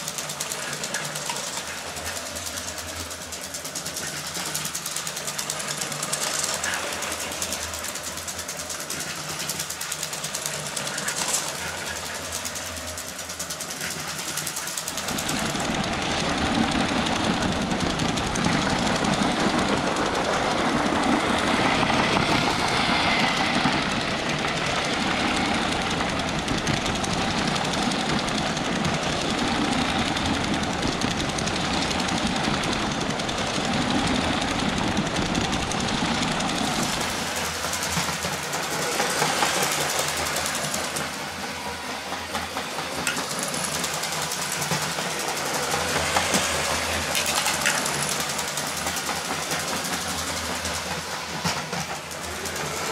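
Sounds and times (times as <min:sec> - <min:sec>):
toy electric train running: 0:00.0 - 0:52.9.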